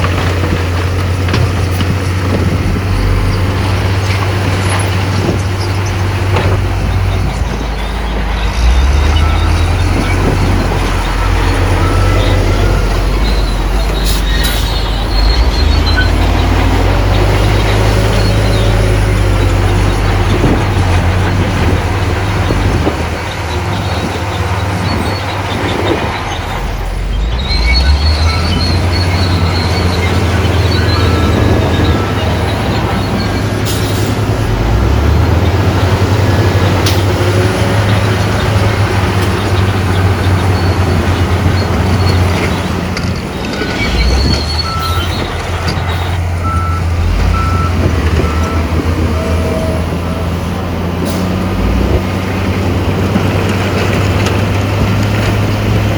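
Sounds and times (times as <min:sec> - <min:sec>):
diesel earthmoving machine engine: 0:00.0 - 0:55.9
high metallic squeaks: 0:02.9 - 0:20.8, 0:23.2 - 0:34.2, 0:35.4 - 0:51.4.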